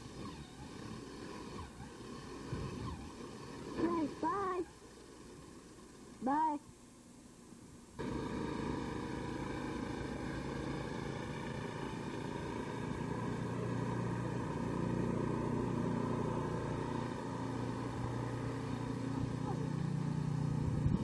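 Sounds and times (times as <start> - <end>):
snow-clearing machine engine: 0.0 - 6.2, 8.0 - 21.0.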